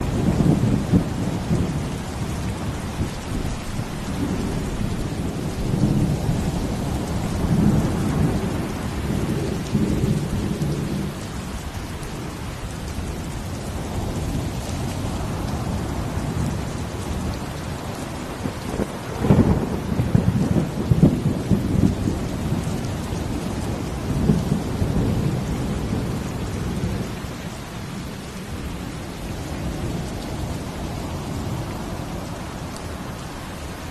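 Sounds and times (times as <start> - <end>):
rolling thunder rumbles: 0.0 - 33.9
steady rain: 0.0 - 33.9.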